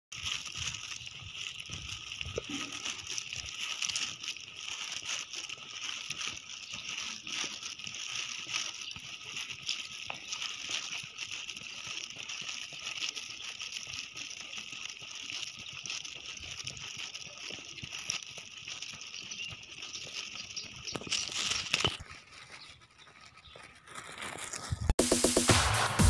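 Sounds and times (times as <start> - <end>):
faint footsteps on asphalt: 0.1 - 25.4
rustle: 0.2 - 24.9.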